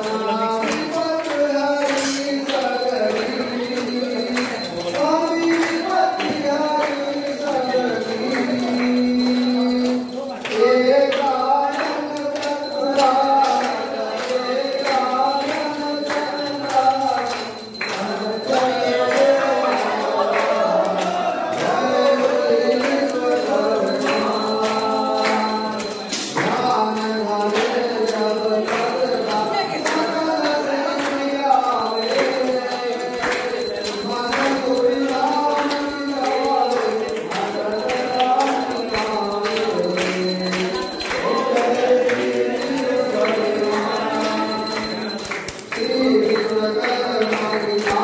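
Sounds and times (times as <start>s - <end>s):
percussion beat of clicks: 0.0s - 48.0s
voices singing together: 0.0s - 48.0s.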